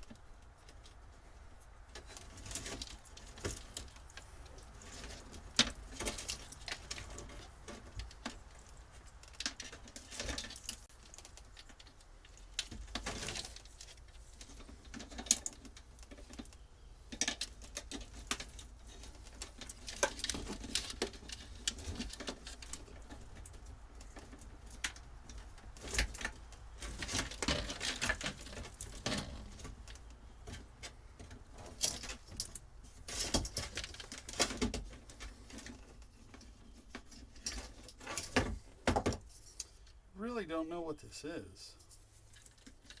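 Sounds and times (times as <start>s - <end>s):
wires being handled and pulled: 0.0s - 40.4s, 41.3s - 43.0s.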